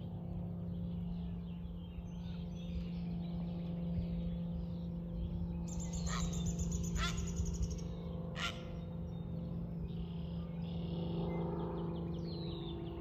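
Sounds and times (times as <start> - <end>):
steady low hum: 0.0 - 13.0
birds chirping: 0.2 - 13.0.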